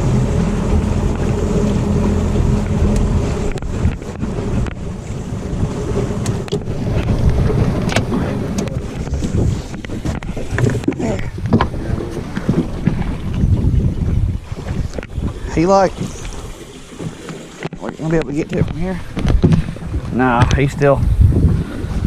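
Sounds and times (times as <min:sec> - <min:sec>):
boat motor running: 0:00.0 - 0:22.0
wind buffeting microphone: 0:00.0 - 0:22.0.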